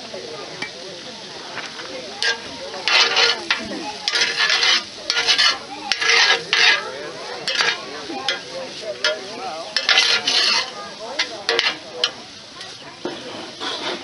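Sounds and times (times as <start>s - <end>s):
vegetables sizzling: 0.0s - 14.0s
metal spoon scraping a pan: 1.6s - 14.0s.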